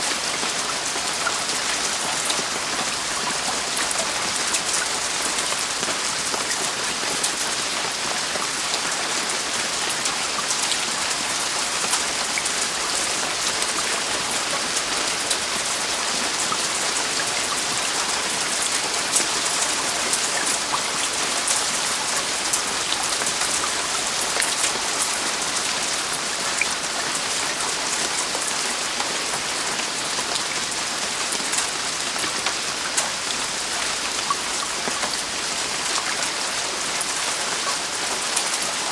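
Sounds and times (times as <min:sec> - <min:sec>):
heavy rain on a roof: 0:00.0 - 0:38.9
raindrops pattering: 0:00.0 - 0:38.9.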